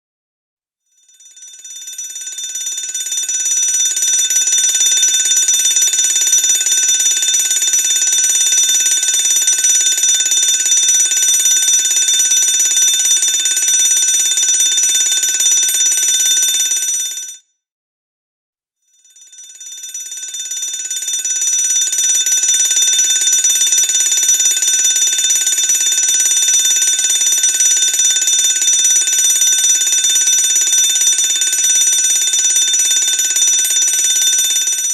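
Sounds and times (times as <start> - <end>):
fire alarm bell ringing: 0.9 - 17.4, 19.0 - 34.9.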